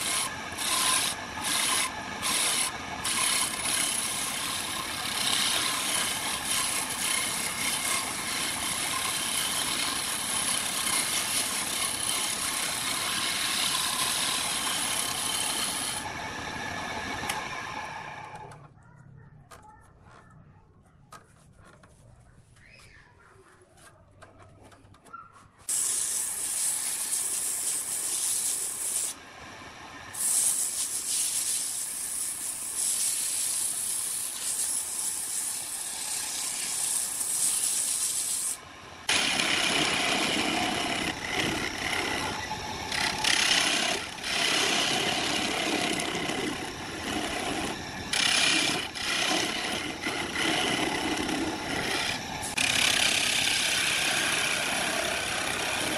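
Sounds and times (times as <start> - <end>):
sandpaper hissing on spinning wood: 0.0 - 16.1, 25.6 - 29.2, 30.1 - 55.9
turning tool scraping wood: 0.0 - 18.5, 25.6 - 29.2, 30.2 - 55.9.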